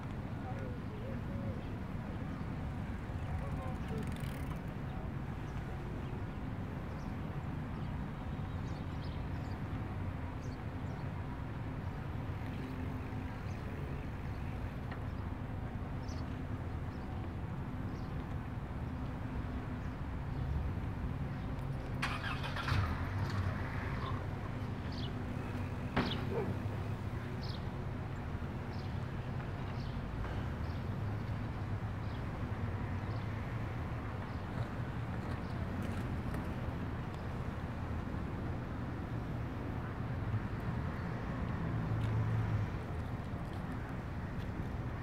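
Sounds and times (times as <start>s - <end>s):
bicycle ride rumble: 0.0s - 45.0s
road traffic: 0.0s - 45.0s.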